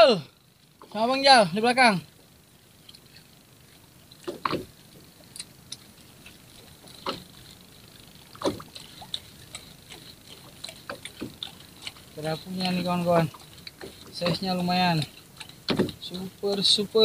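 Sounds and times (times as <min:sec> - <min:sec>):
small ticks: 0:02.2 - 0:17.0
water splashing against boat: 0:02.8 - 0:17.0.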